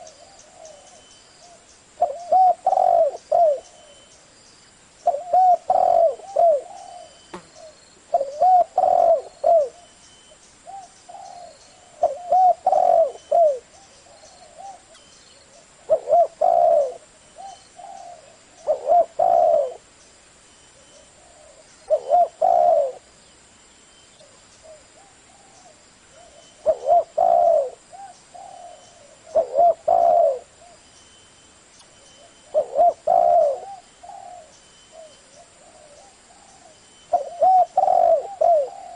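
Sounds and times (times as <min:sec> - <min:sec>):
dove cooing: 0:00.0 - 0:04.0, 0:05.0 - 0:09.9, 0:10.6 - 0:19.9, 0:20.8 - 0:23.1, 0:24.2 - 0:30.8, 0:32.1 - 0:38.9.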